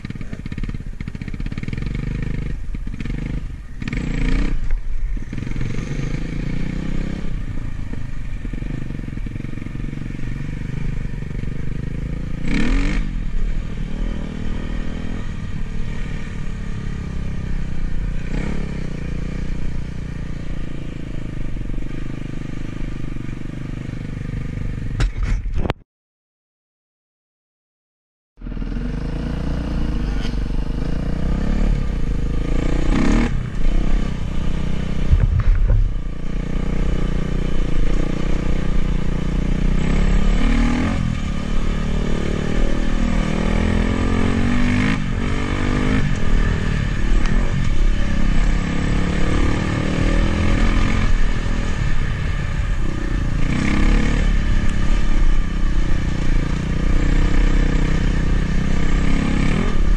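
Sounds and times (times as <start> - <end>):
dirt bike engine revving: 0.0 - 7.6, 8.3 - 22.6, 28.4 - 59.9.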